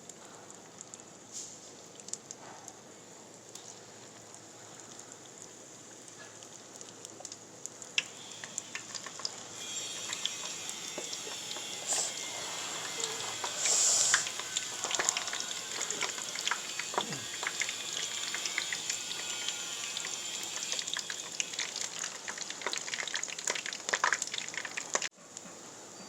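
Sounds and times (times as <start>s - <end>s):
food deep-frying in oil: 0.0s - 25.2s.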